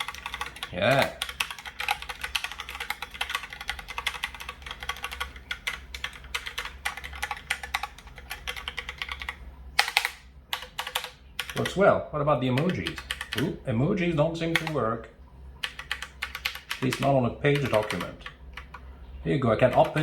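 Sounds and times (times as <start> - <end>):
mechanical keyboard typing: 0.0 - 11.8, 12.6 - 13.5, 14.5 - 14.8, 15.6 - 18.8, 19.6 - 20.0.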